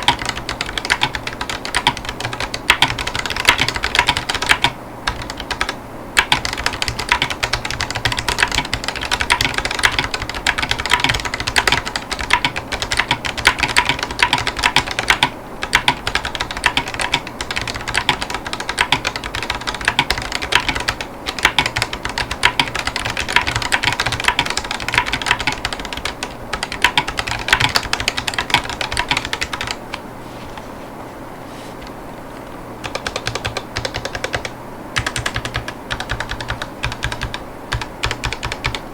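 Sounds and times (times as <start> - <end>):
mechanical keyboard typing: 0.0 - 29.8, 32.8 - 38.8.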